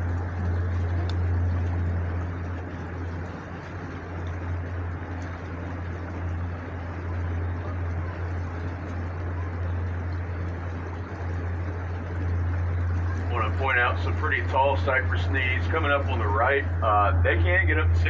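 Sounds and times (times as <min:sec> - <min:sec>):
boat motor droning: 0:00.0 - 0:18.0
water wash: 0:00.0 - 0:18.0.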